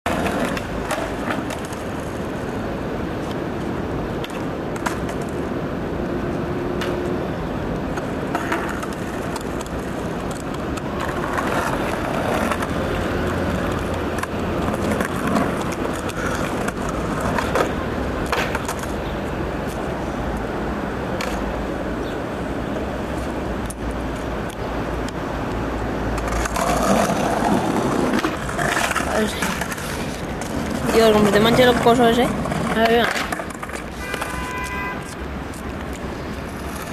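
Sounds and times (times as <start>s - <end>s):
rumbling outdoor noise: 0.0s - 36.9s.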